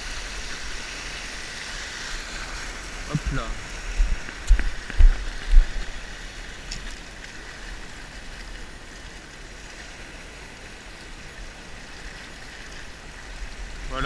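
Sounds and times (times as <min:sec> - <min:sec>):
sea washing against rocky shore: 0:00.0 - 0:14.0.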